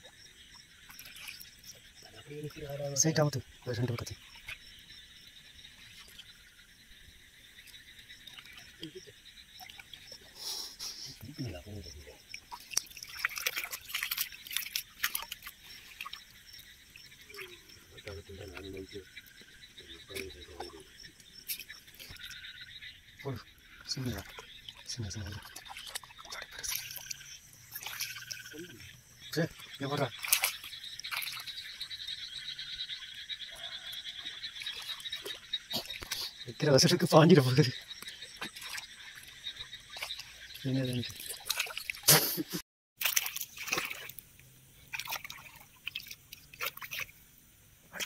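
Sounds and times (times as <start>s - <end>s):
frogs trilling chorus: 0.0s - 42.4s, 43.0s - 48.0s
water splashing and dripping: 0.0s - 48.0s.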